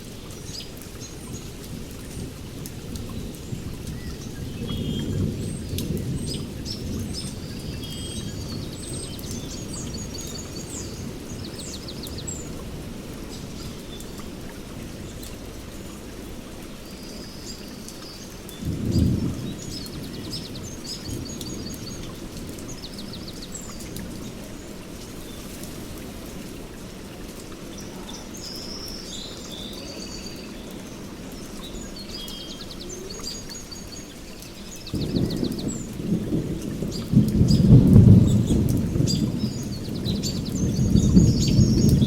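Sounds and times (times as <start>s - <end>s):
songbirds chirping and trilling: 0.2s - 42.0s.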